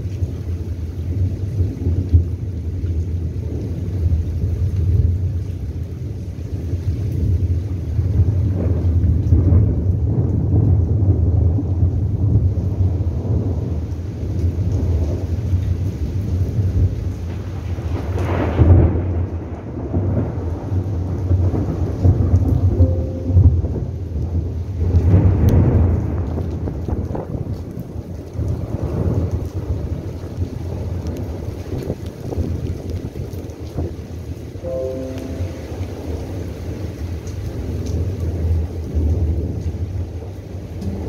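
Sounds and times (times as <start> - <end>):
steady rain: 0.0 - 41.0
thunder rumbling: 0.5 - 41.0.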